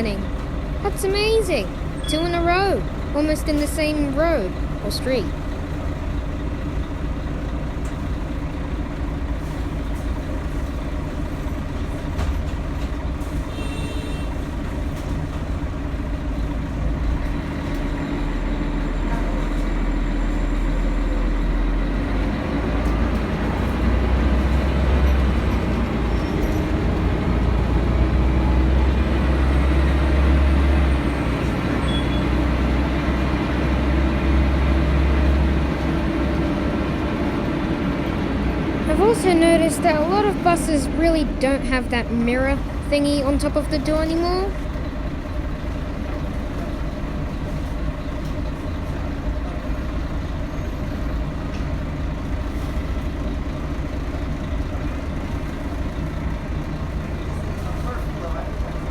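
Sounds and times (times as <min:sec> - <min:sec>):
bus diesel engine rumbling: 0:00.0 - 0:58.9.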